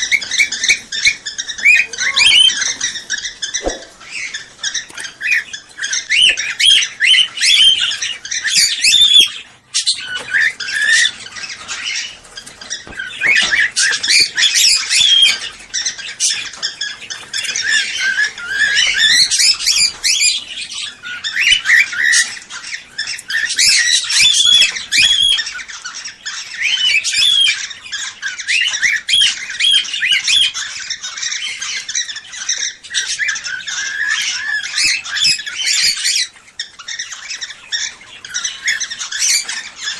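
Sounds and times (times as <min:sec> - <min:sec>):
cockatiels chirping and squawking: 0:00.0 - 0:39.9.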